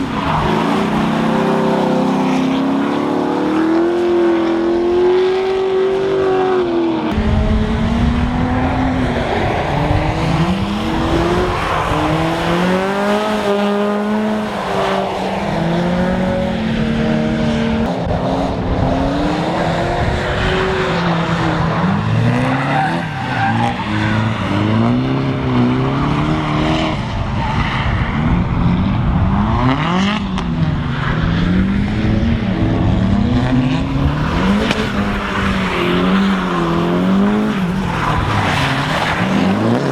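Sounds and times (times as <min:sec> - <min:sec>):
car engines revving hard: 0:00.0 - 0:39.9.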